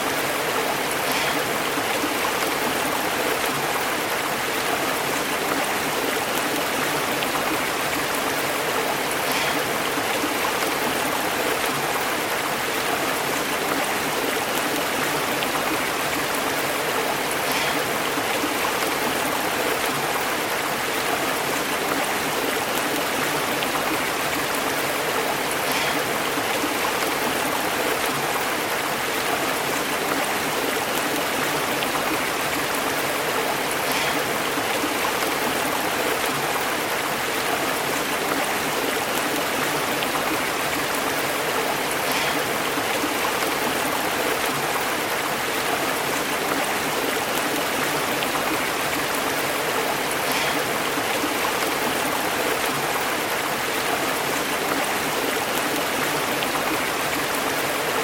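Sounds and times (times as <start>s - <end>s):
small water splashes: 0.0s - 58.0s
stream babbling over rocks: 0.0s - 58.0s.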